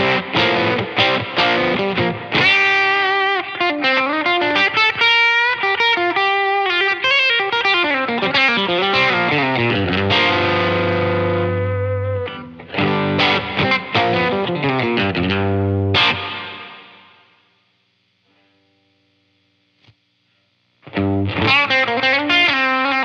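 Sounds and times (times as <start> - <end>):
electric guitar lead line: 0.0 - 19.7, 20.8 - 23.0.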